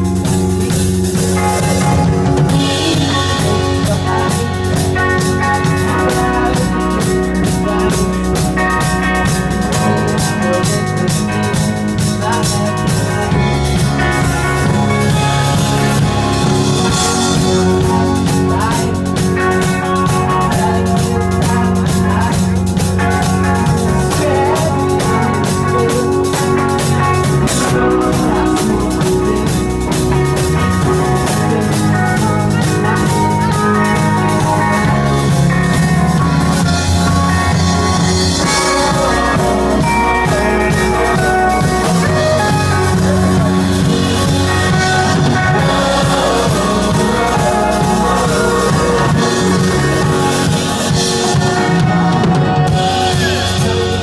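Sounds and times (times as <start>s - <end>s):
drum kit beating: 0.0s - 54.0s
electric guitar: 0.0s - 54.0s.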